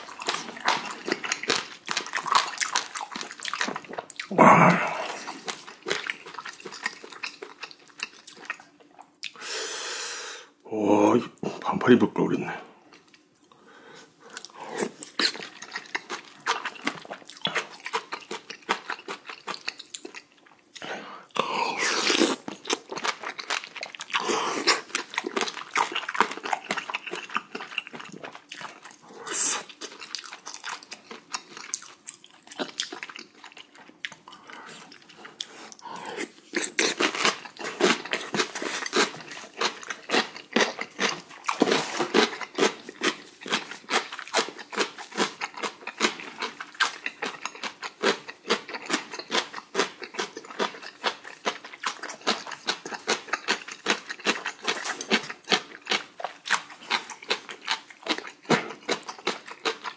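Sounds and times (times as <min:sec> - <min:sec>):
person chewing with wet smacks: 0:00.0 - 0:04.3, 0:04.9 - 0:09.4, 0:12.9 - 0:13.6, 0:14.2 - 0:59.9.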